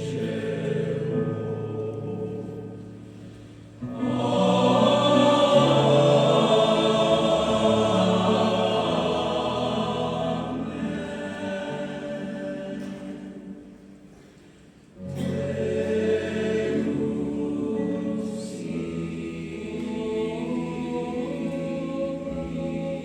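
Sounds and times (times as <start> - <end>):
choir singing held chords: 0.0 - 23.0.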